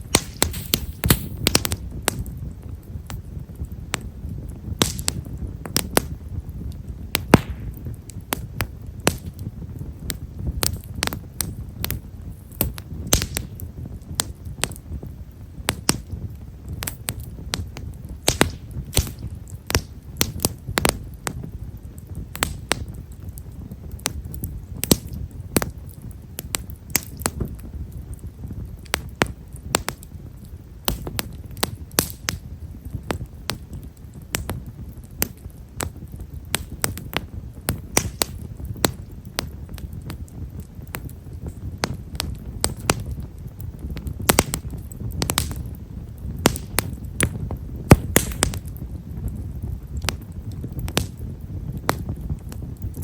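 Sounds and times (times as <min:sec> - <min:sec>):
firewood crackling and popping: 0:00.0 - 0:53.0
low rush of flames: 0:00.0 - 0:53.0.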